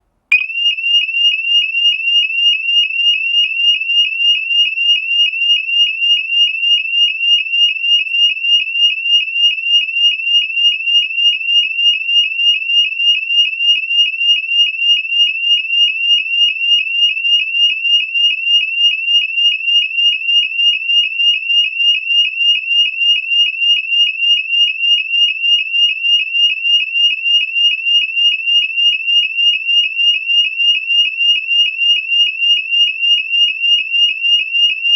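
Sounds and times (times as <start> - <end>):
fire alarm sweeping tone: 0.3 - 34.9.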